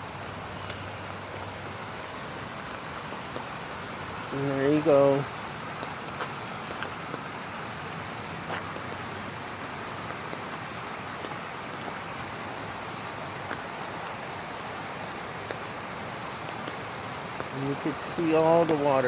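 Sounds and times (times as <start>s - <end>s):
rain falling: 0.0s - 19.0s
runoff water rushing: 0.0s - 19.0s
water drops ticking: 2.6s - 19.0s.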